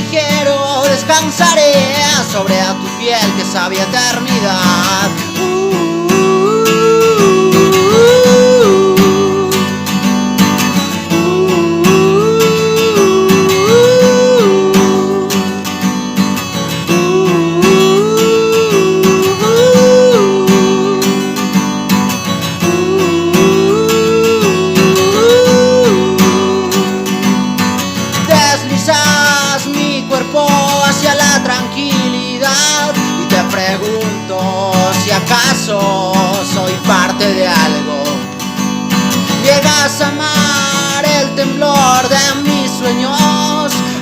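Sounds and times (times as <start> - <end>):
lead guitar melody: 0.0 - 44.0
strummed acoustic guitar: 0.0 - 44.0.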